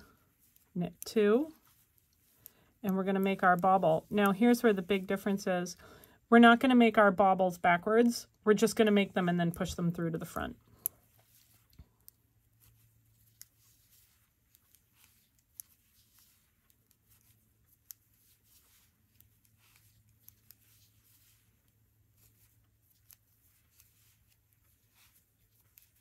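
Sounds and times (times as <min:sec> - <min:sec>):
knitting needles ticking: 0:00.0 - 0:06.1, 0:07.6 - 0:26.0.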